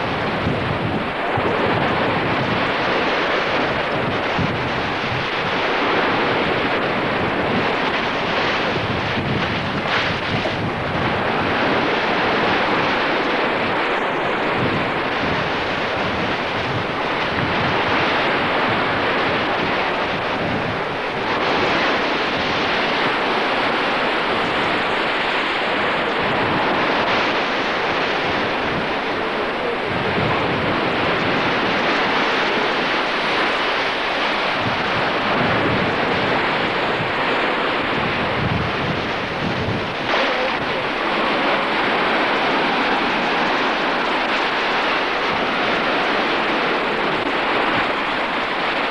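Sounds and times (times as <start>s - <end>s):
sea surf on a beach: 0.0s - 48.9s
wind buffeting microphone: 0.0s - 48.9s.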